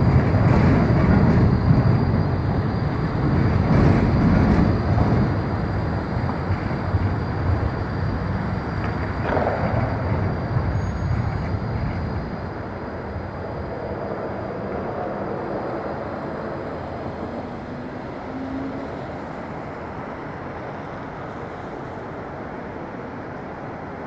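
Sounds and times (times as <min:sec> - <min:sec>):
street traffic: 0:00.0 - 0:24.0
tram rumble: 0:00.0 - 0:24.0.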